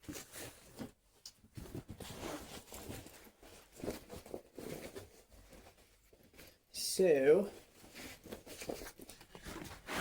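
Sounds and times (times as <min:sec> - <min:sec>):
jacket rustling: 0:00.0 - 0:10.0.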